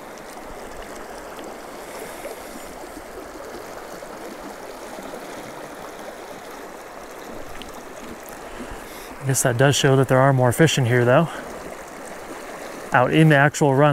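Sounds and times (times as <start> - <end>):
river running over stones: 0.0 - 13.9.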